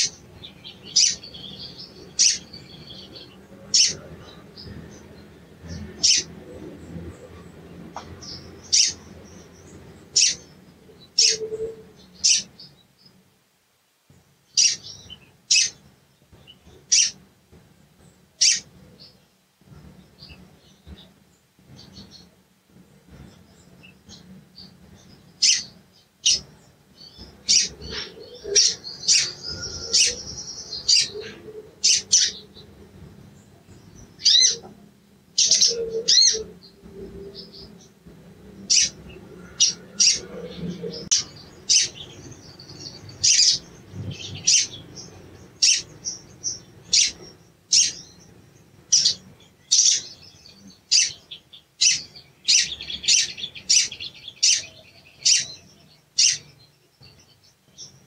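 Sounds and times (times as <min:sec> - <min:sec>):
bird twittering: 0:00.0 - 0:06.4, 0:07.2 - 0:12.7, 0:14.5 - 0:15.8, 0:16.4 - 0:17.2, 0:18.4 - 0:18.7, 0:23.4 - 0:32.8, 0:33.7 - 0:34.8, 0:35.4 - 0:37.9, 0:38.6 - 0:58.0
sunbird chirping: 0:00.0 - 0:13.3, 0:14.4 - 0:58.0.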